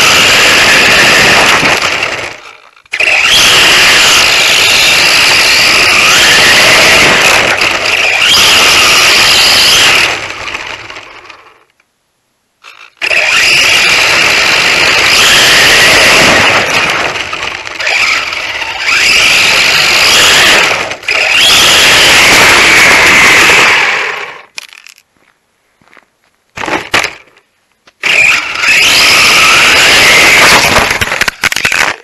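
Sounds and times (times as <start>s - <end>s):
rc truck motor whining: 0.0s - 11.7s, 12.7s - 24.5s, 28.0s - 32.0s
tyres on coarse tarmac: 0.0s - 32.0s.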